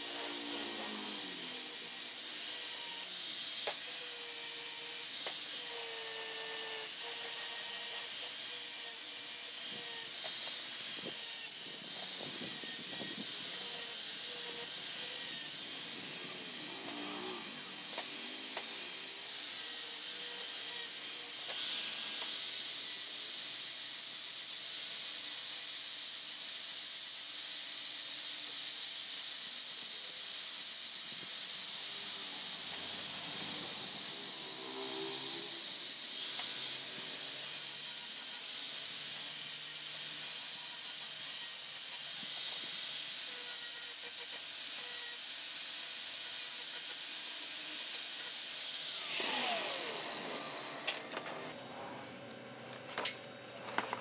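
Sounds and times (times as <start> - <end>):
angle grinder grinding steel: 0.0 - 26.8, 27.5 - 54.0.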